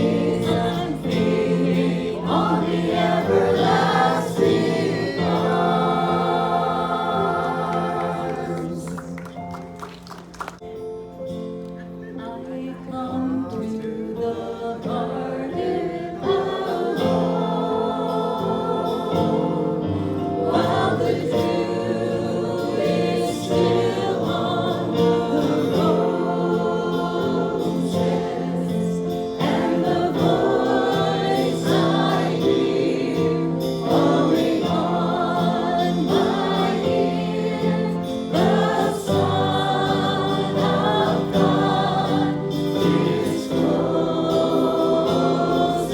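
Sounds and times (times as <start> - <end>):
voices singing together: 0.0 - 9.4, 12.2 - 45.9.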